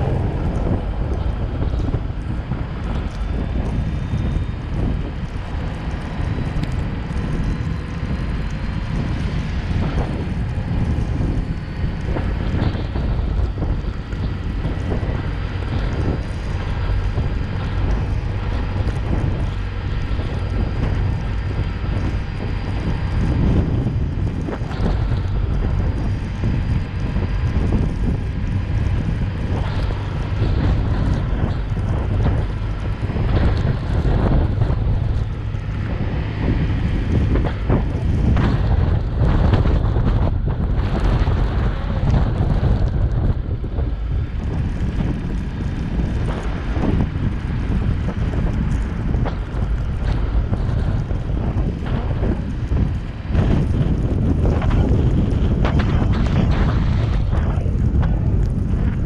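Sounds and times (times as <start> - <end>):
engine and tyre rumble: 0.0 - 59.0
wind noise: 0.0 - 59.0.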